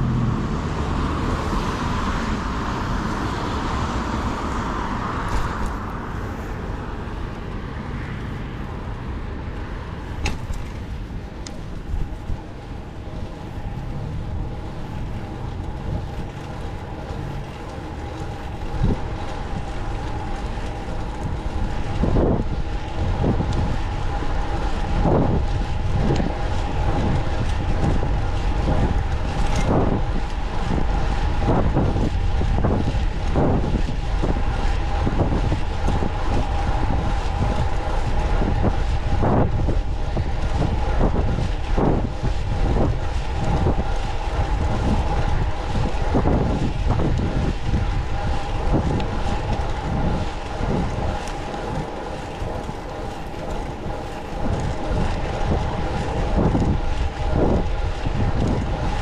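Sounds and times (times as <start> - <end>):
road rumble: 0.0 - 59.0
wind on microphone: 0.0 - 59.0
steady hum: 9.9 - 59.0.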